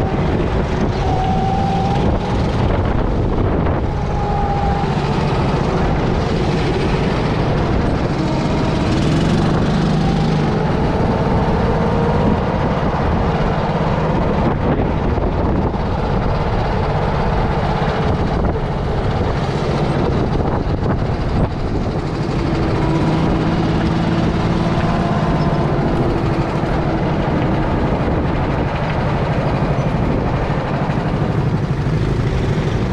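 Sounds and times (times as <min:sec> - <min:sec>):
go-kart engine running: 0:00.0 - 0:32.9
wind and road noise: 0:00.0 - 0:32.9.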